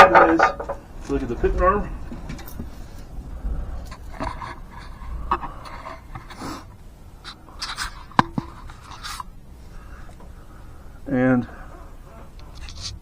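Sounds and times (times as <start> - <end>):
light scraping and rustling: 0.0 - 10.4, 11.4 - 13.0.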